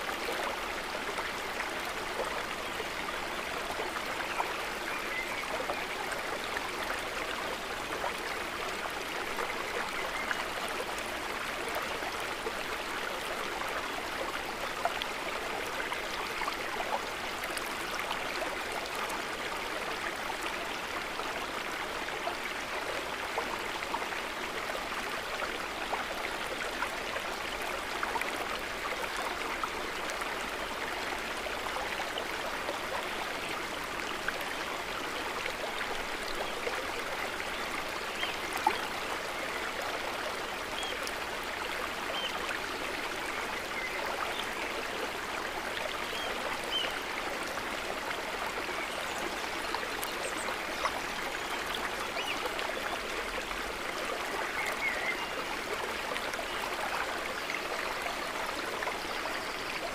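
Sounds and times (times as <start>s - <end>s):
water trickling and babbling: 0.0s - 59.9s.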